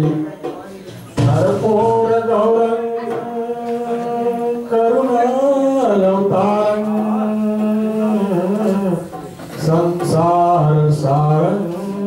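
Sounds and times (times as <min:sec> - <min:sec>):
man singing into microphone: 0:01.2 - 0:12.0.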